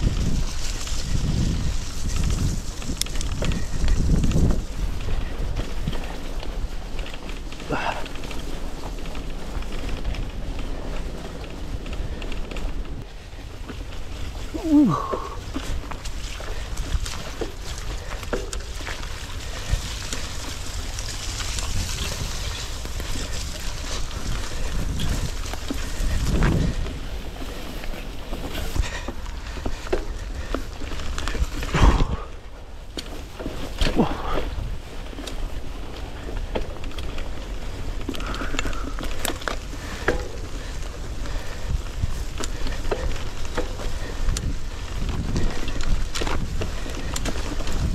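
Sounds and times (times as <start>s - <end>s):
bike clicks and rattles: 0.0s - 47.9s
tyres rushing through grass: 0.0s - 47.9s
wind rumble on microphone: 0.0s - 47.9s.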